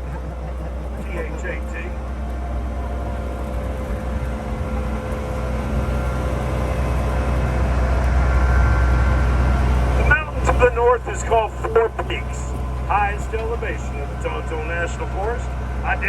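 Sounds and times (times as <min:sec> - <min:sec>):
faint whining tones: 0:00.0 - 0:16.0
small train rumbling: 0:00.0 - 0:16.0.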